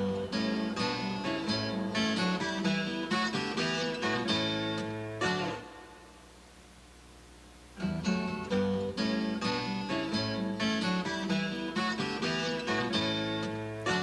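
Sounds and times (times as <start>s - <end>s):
strummed acoustic guitar: 0.0s - 6.1s, 7.8s - 14.0s.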